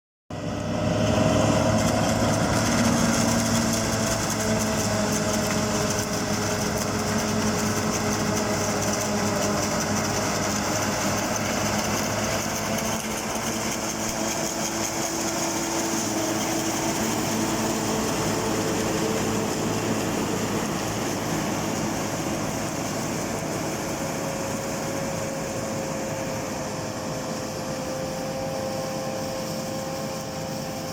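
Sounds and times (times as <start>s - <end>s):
harvester engine and machinery: 0.3s - 30.9s.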